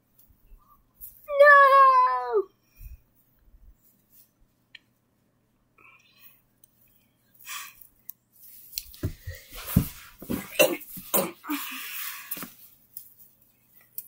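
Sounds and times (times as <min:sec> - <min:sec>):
rustling: 0:00.0 - 0:01.4, 0:02.7 - 0:14.0.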